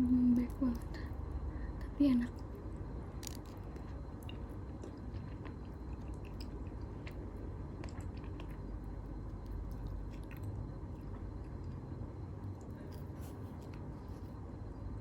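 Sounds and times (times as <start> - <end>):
person chewing soft food: 0.4 - 14.5.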